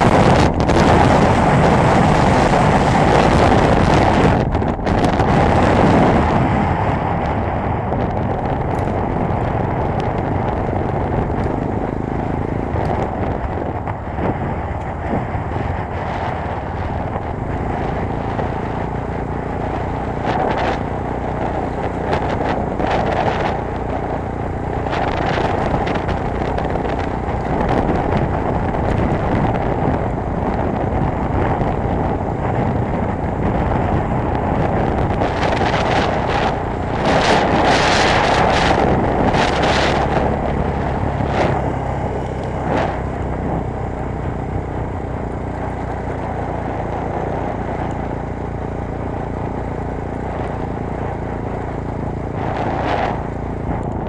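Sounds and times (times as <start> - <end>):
motorcycle engine at speed: 0.0 - 54.0
wind rush on microphone: 0.0 - 54.0.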